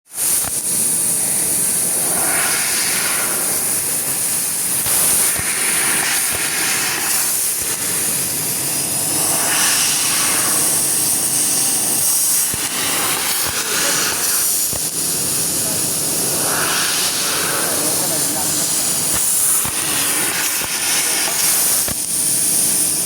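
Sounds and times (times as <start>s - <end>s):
laser cutting machine hissing: 0.1s - 23.0s.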